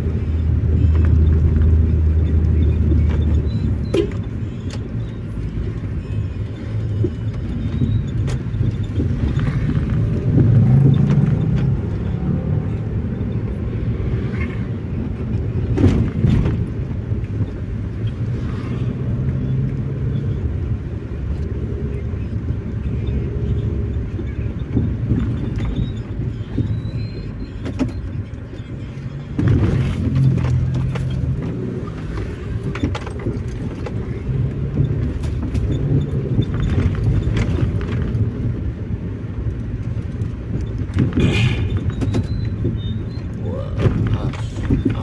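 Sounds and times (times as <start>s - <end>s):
car engine and road noise: 0.0s - 45.0s.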